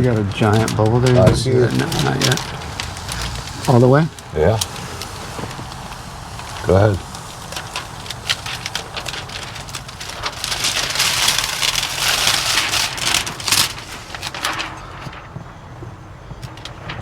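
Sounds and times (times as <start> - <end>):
film liner peeling crackle: 0.0 - 15.3.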